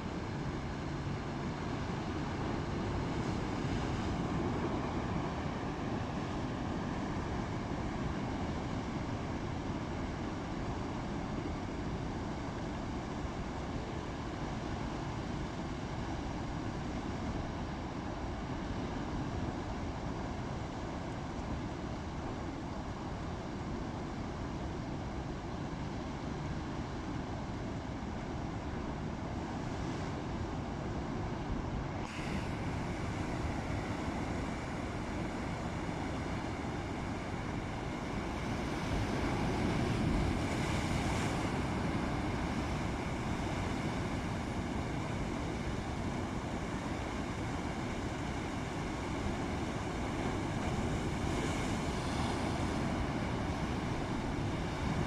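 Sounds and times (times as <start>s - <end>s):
faint steady hum: 0.0s - 55.0s
rough sea: 0.0s - 55.0s
wind: 0.0s - 55.0s.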